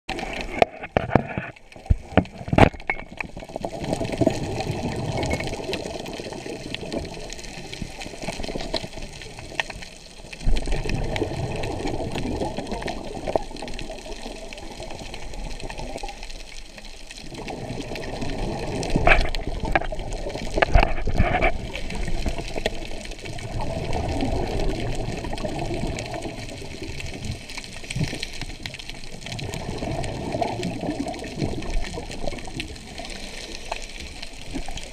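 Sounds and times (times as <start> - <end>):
underwater rush of water: 0.1 - 34.9.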